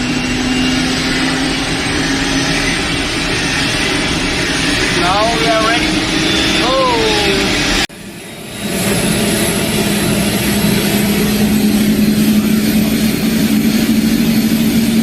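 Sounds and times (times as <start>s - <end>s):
helicopter turbine and rotor: 0.0s - 15.0s.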